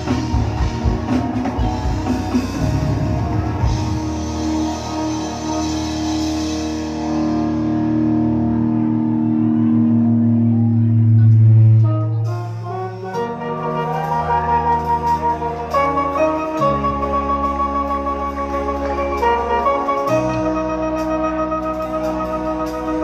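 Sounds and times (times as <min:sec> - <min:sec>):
live band music over pa: 0:00.0 - 0:23.0.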